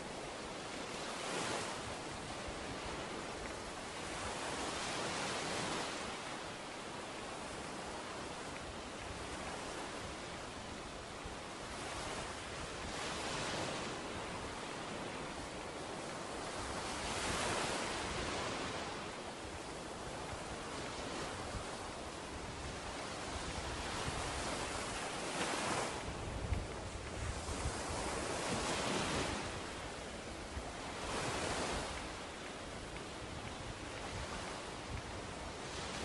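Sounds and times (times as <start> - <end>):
ocean surf on beach: 0.0 - 36.0.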